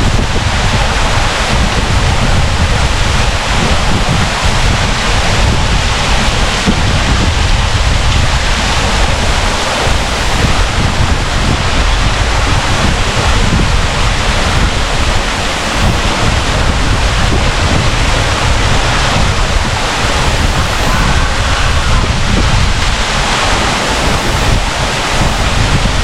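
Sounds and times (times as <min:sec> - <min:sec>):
waterfall splashing into pool: 0:00.0 - 0:26.0
wind rumbling on microphone: 0:00.0 - 0:26.0.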